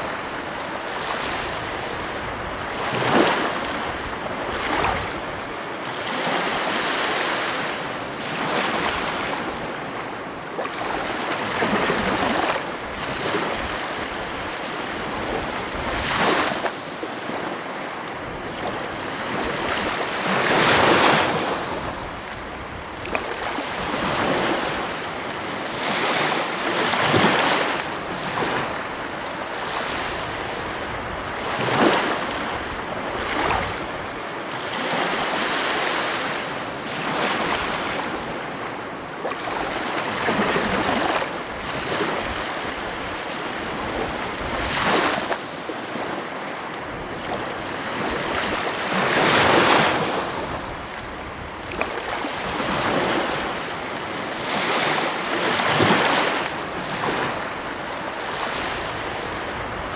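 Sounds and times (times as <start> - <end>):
heavy ocean waves breaking: 0.0 - 59.9.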